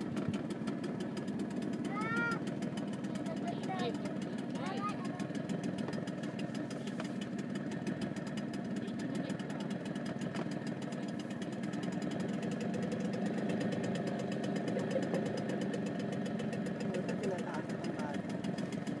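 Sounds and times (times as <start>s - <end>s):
small boat engine chugging: 0.0s - 19.0s.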